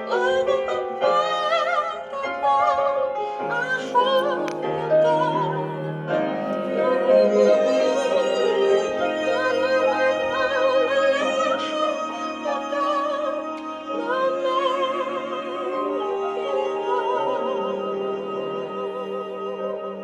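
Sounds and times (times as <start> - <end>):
singer with wide vibrato: 0.0 - 20.0
sustained musical accompaniment: 0.0 - 20.0.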